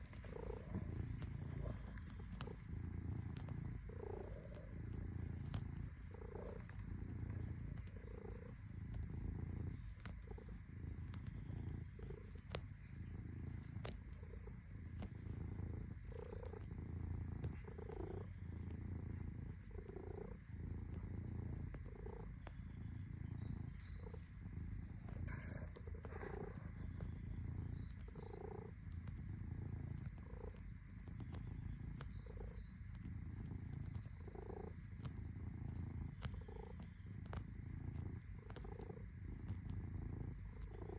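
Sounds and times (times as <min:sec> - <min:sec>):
cat purring: 0:00.0 - 0:40.9
faint ticks: 0:00.0 - 0:40.9.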